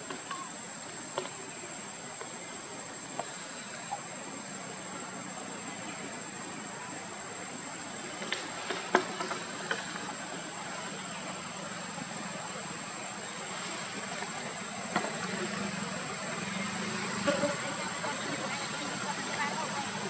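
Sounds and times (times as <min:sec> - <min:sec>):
background hiss: 0:00.0 - 0:20.0
high insect drone: 0:00.0 - 0:20.0.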